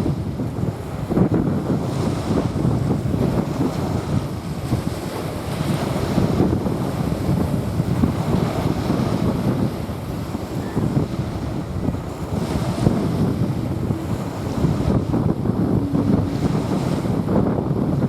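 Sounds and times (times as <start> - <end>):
small waves washing onto sand: 0.0 - 18.0
wind buffeting microphone: 0.0 - 18.0.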